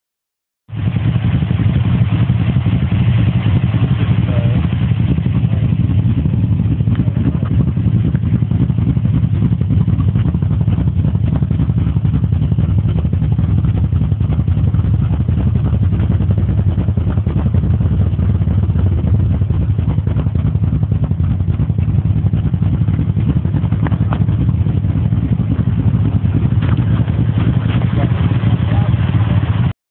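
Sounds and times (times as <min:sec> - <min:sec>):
truck engine idling: 0:00.7 - 0:29.7.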